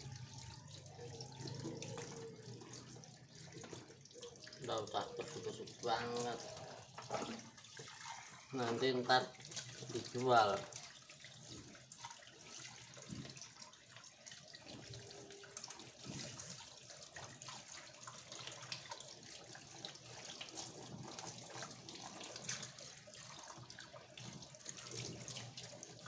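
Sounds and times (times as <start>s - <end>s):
tap water running into sink: 0.0s - 26.0s
small splashes and knocks: 0.1s - 26.0s.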